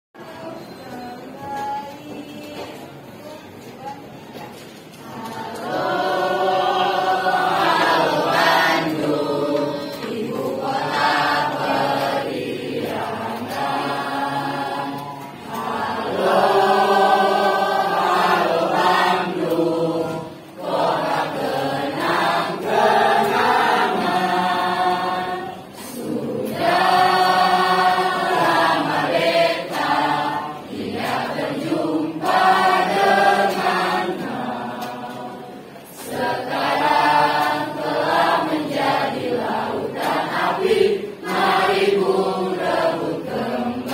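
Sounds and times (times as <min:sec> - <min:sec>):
group singing unaccompanied: 0:00.2 - 0:03.6, 0:04.2 - 0:43.9.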